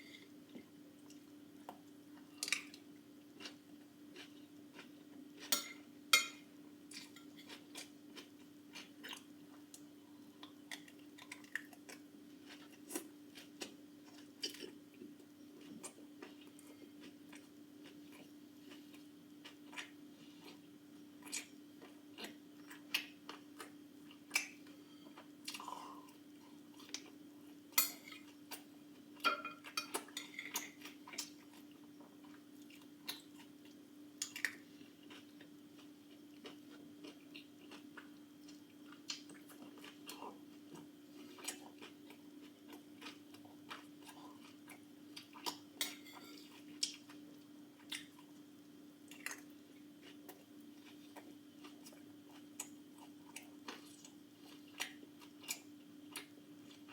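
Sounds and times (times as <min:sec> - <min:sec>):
faint steady hum: 0:00.0 - 0:56.9
chewing: 0:10.4 - 0:48.4, 0:49.1 - 0:56.9.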